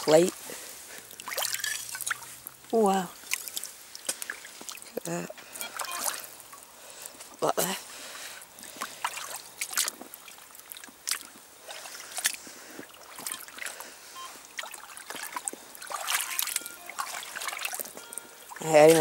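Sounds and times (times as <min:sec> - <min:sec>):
boots splashing through water: 0:00.0 - 0:02.6, 0:03.2 - 0:07.8, 0:08.5 - 0:19.0
faint water trickle: 0:00.0 - 0:19.0.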